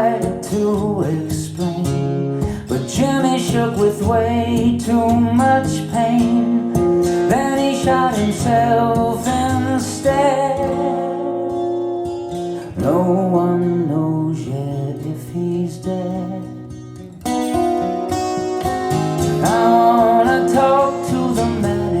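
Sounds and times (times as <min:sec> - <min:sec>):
acoustic guitar instrumental music: 0:00.0 - 0:22.0.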